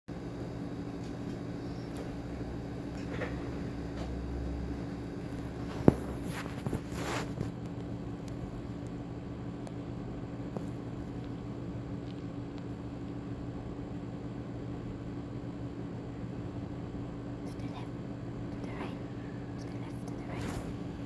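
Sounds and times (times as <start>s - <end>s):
low machine hum: 0.1s - 21.0s.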